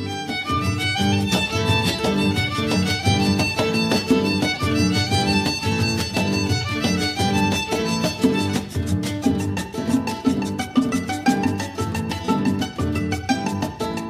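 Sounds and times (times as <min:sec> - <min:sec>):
upbeat instrumental music: 0:00.0 - 0:14.0.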